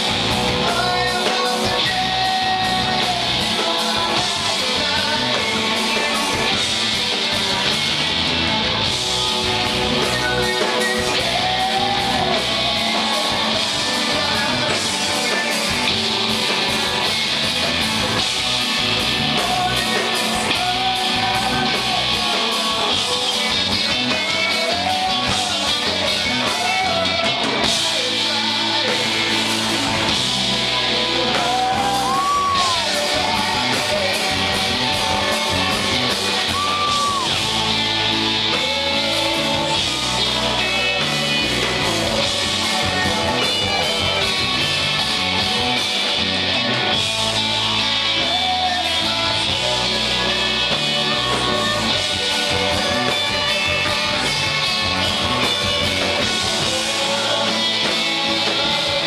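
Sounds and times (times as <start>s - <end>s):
man singing: 0.0s - 7.8s, 9.6s - 17.4s, 18.0s - 46.3s, 46.9s - 59.0s
rock band playing: 0.0s - 59.0s.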